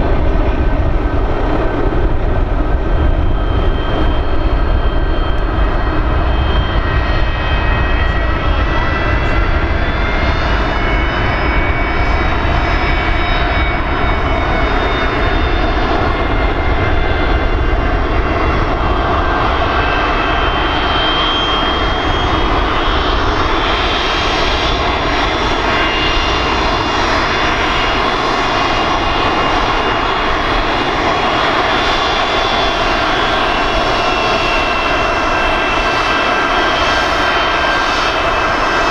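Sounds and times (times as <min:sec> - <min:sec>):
jet engines whining at taxi: 0:00.0 - 0:38.9.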